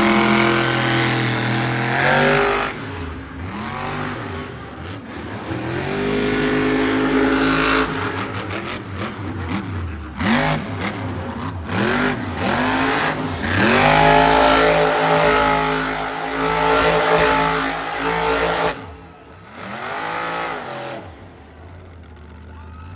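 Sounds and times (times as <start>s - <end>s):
truck engine revving: 0.0s - 22.8s.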